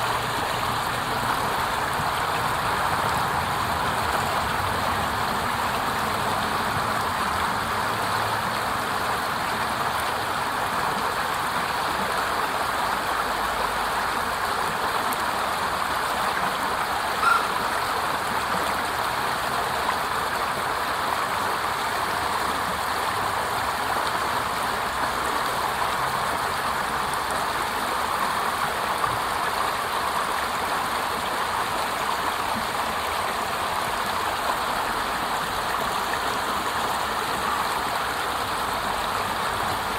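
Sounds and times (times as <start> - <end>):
small water cascade rushing: 0.0 - 39.9.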